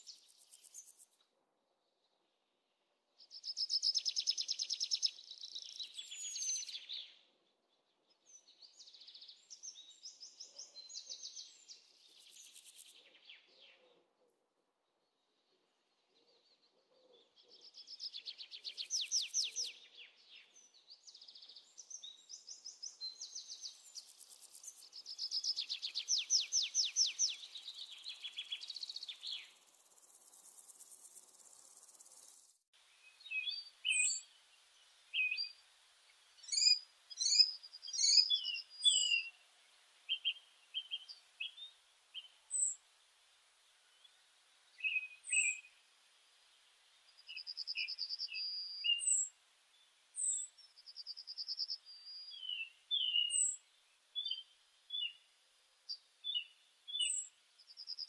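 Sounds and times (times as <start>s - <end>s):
small birds chirping trills: 0.0s - 1.2s, 1.9s - 13.9s, 14.9s - 58.0s.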